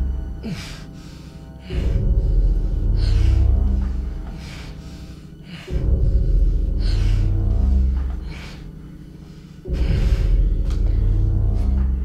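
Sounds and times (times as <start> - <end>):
tense dark film score: 0.0 - 12.0.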